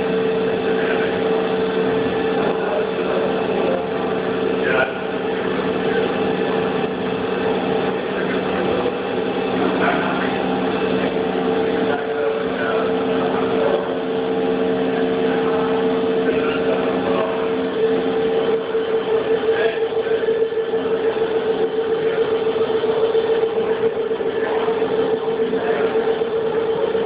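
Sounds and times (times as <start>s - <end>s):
lower machine tone: 0.0s - 27.0s
milling machine hum: 0.0s - 27.0s.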